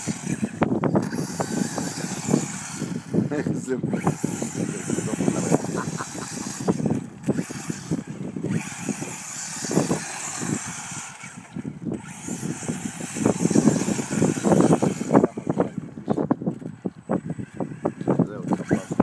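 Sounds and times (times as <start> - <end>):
radio-controlled truck driving on dirt: 0.0 - 19.0.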